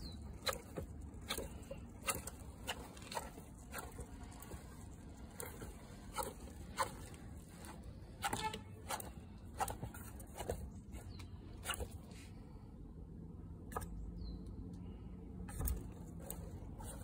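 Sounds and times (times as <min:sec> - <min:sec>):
clicks and scrapes on plastic: 0:00.0 - 0:12.2, 0:15.5 - 0:17.0.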